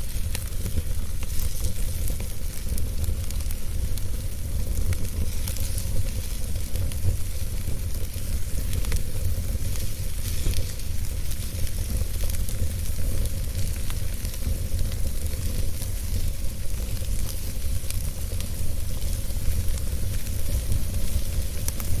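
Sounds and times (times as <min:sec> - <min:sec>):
fire crackles and pops: 0:00.0 - 0:22.0
wood fire hissing and rumbling: 0:00.0 - 0:22.0.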